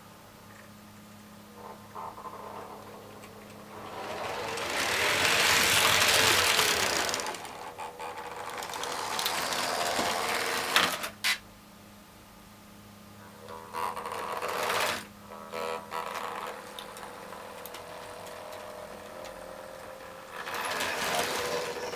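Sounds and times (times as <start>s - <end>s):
model train rattling and whirring: 1.5s - 11.4s, 13.4s - 21.9s.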